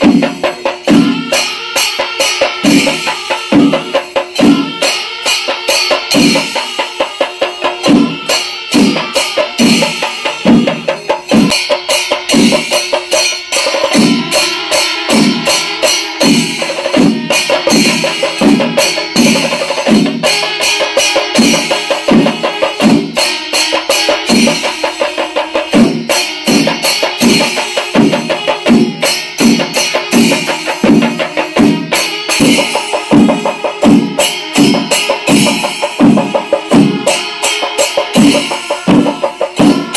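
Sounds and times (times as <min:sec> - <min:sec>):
drums struck with sticks: 0:00.0 - 0:39.9
hand cymbals clashing: 0:00.0 - 0:39.9.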